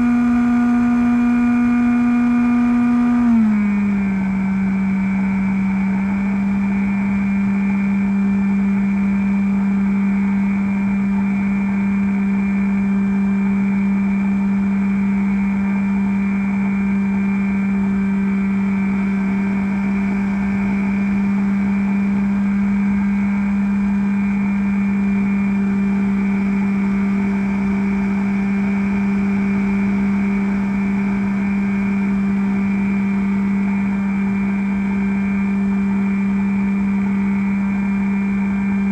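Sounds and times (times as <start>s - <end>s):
electric motor and propeller whine: 0.0s - 38.9s.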